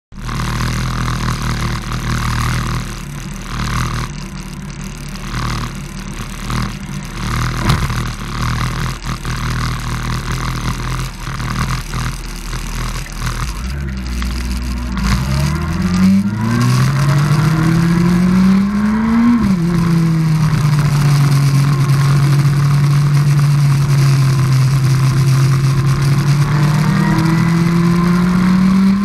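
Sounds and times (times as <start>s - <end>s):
motorcycle engine idling: 0.1s - 27.6s.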